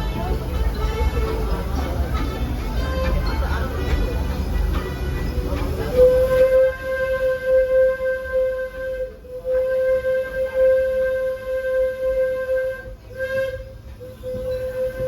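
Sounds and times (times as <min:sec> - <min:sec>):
low rumble of train: 0:00.0 - 0:15.0
steam locomotive whistle: 0:00.0 - 0:15.0.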